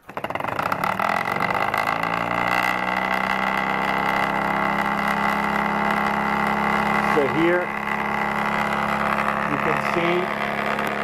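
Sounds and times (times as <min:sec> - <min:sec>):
electric motor hum: 0:00.0 - 0:11.0
high whine: 0:00.0 - 0:11.0.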